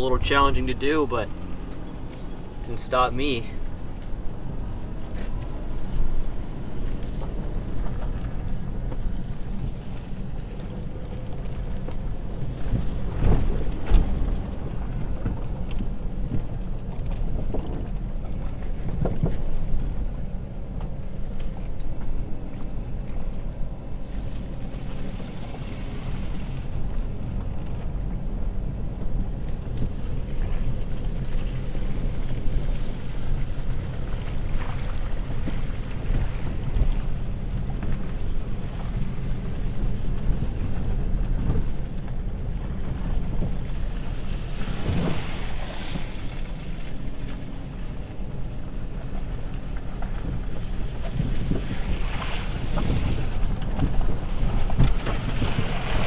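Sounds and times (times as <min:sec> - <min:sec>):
engine and road rumble: 0:00.0 - 0:56.0
wind buffeting microphone: 0:00.0 - 0:56.0.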